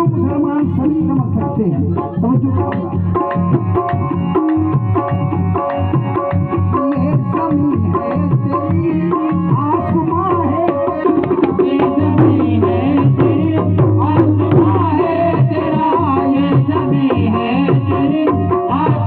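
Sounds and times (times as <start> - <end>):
fast hand-drum rhythm: 0.0 - 19.0.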